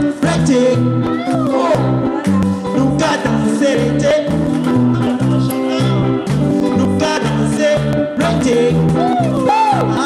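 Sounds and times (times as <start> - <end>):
bass line: 0.0 - 10.0
person singing: 0.0 - 10.0.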